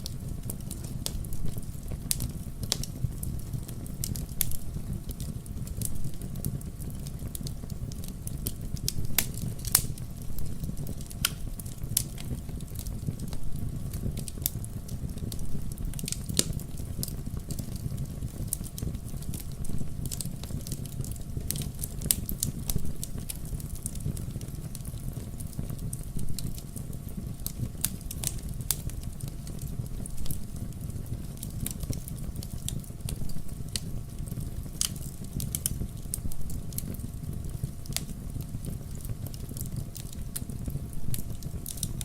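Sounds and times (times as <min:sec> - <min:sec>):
flames rushing: 0:00.0 - 0:42.0
wood fire crackling and popping: 0:00.0 - 0:42.0.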